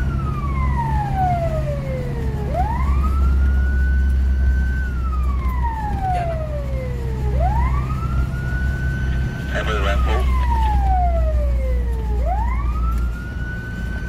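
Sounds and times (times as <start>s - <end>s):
fire engine siren wailing: 0.0s - 14.0s
truck engine rumble: 0.0s - 14.0s.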